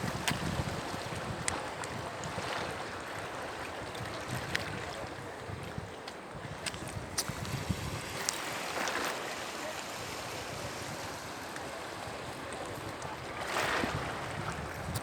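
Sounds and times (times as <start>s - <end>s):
sea waves breaking on beach: 0.0s - 15.0s
wind buffeting microphone: 0.0s - 15.0s.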